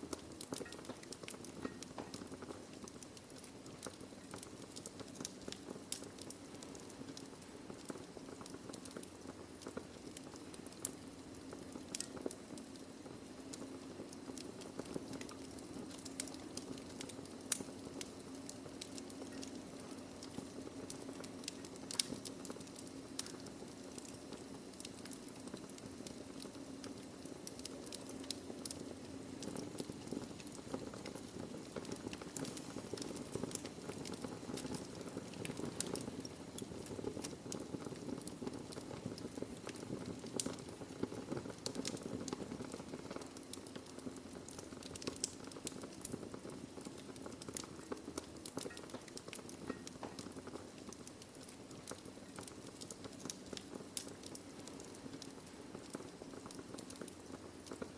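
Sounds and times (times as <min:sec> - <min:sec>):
burning logs crackling and popping: 0:00.0 - 0:57.9
low rumble of fire: 0:00.0 - 0:57.9.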